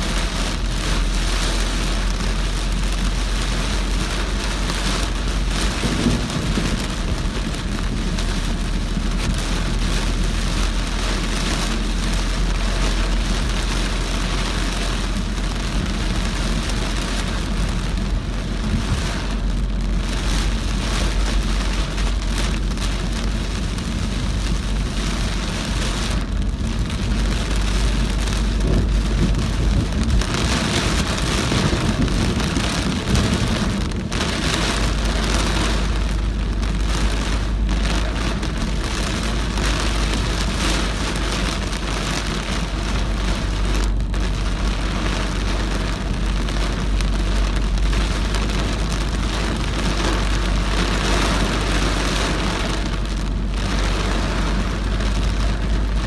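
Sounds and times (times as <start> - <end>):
car rumble on wet road: 0.0 - 56.0
heavy rain on a car: 0.0 - 56.0.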